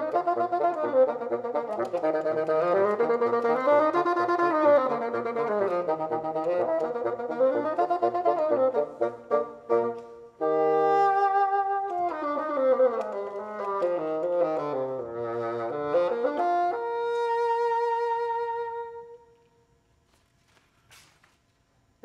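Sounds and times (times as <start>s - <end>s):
bassoon duet: 0.0s - 19.5s.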